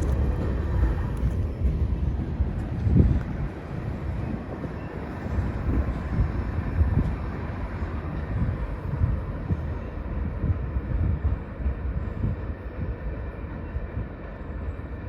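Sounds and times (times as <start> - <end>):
freight train wheels on rail: 0.0 - 15.0.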